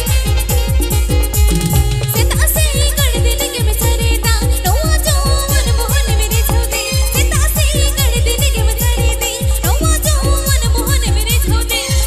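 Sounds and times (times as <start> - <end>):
wavering melody line: 0.0 - 12.0
deep drum hits: 0.6 - 11.6.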